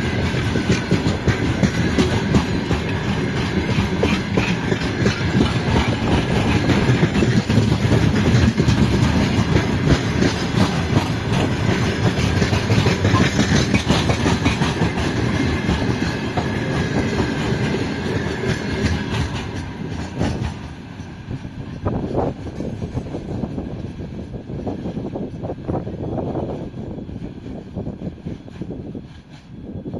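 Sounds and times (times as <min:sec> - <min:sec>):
train wheels clattering over rails: 0:00.0 - 0:29.9.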